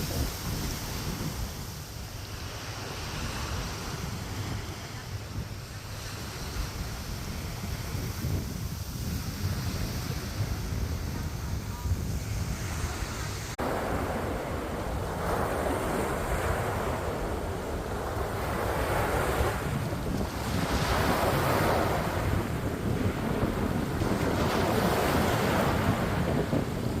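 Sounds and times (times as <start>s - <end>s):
sea waves washing onto shore: 0.0s - 27.0s
wind buffeting microphone: 0.0s - 27.0s.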